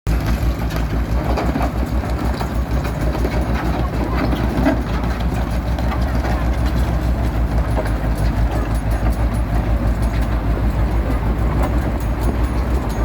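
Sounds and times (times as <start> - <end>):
heavy diesel engine throbbing: 0.1 - 13.0.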